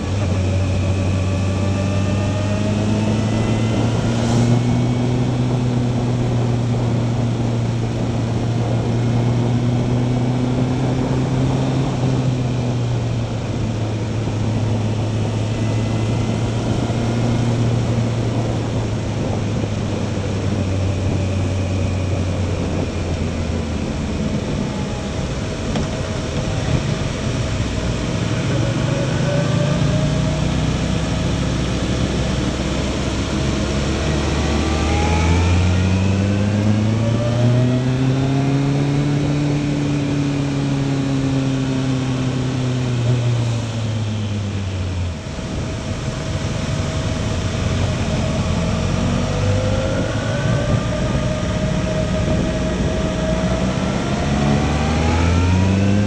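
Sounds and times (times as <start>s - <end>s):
motorcycle engine running: 0.0s - 56.0s
wind: 0.0s - 56.0s.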